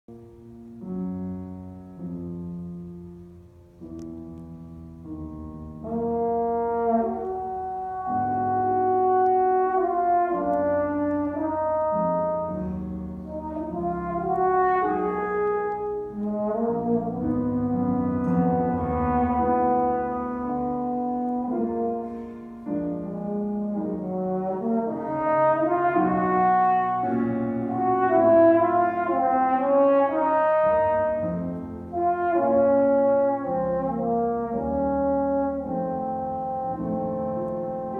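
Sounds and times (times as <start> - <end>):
brass instrument melody: 0.1 - 37.9
piano accompaniment: 0.1 - 37.9.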